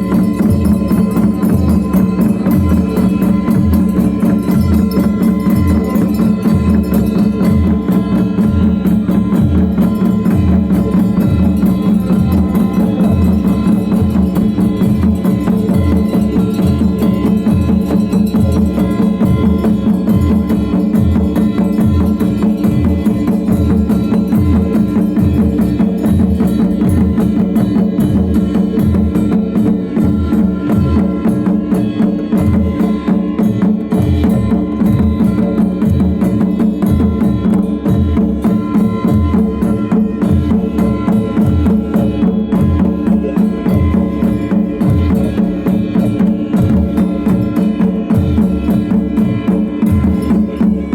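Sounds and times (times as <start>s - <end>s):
steady drum beat: 0.0s - 50.9s.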